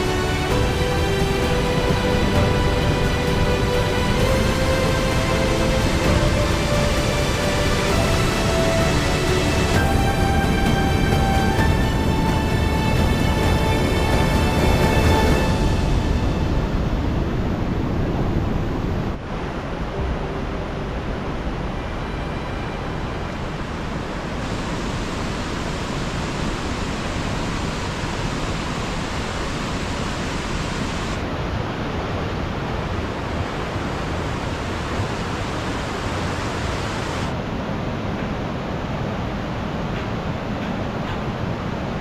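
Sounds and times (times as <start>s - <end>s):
mountain stream rushing: 0.0s - 42.0s.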